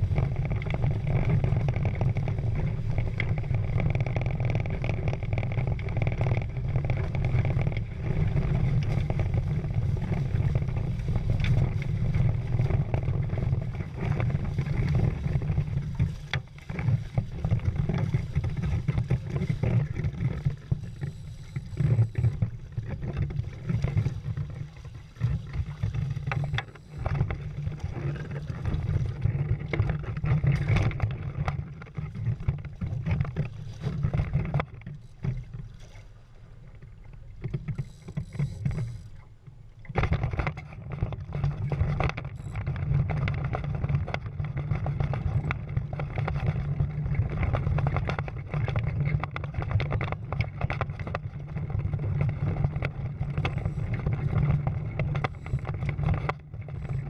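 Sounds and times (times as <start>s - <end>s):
water rushing along hulls: 0.0s - 57.0s
wind rumble on microphone: 0.0s - 57.0s.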